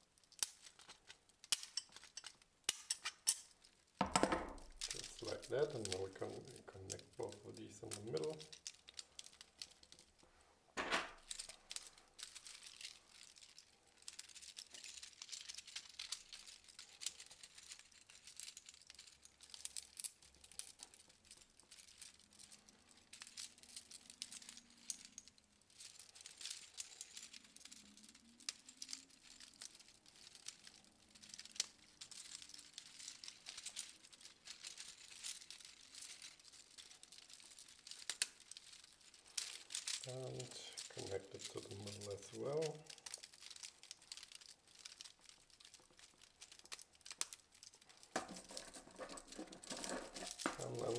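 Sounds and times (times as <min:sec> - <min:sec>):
plastic pieces clicking and rattling: 0:00.1 - 0:10.2, 0:10.8 - 0:50.9.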